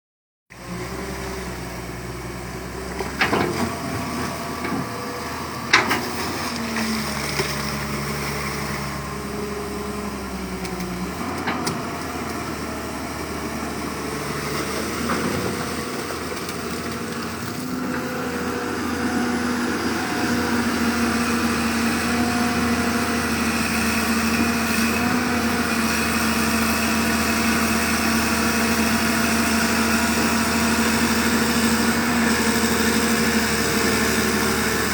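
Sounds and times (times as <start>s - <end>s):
diesel excavator engine running: 0.5s - 34.9s.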